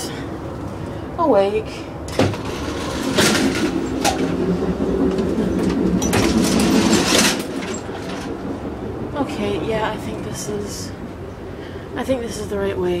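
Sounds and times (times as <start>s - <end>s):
train rumbling and rattling: 0.0s - 13.0s.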